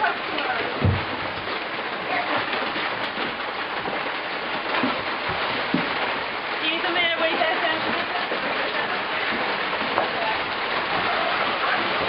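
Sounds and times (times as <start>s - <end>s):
rainwater dripping and splashing: 0.0s - 12.0s.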